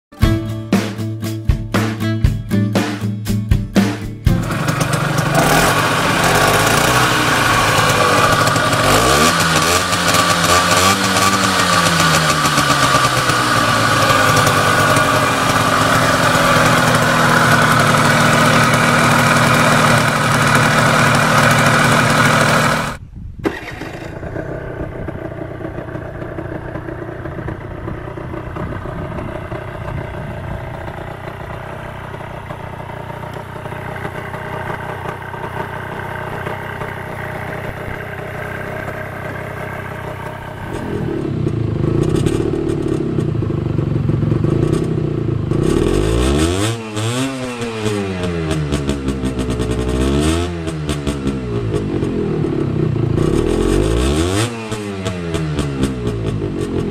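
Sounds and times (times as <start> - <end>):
two-stroke scooter engine revving: 4.3 - 56.9.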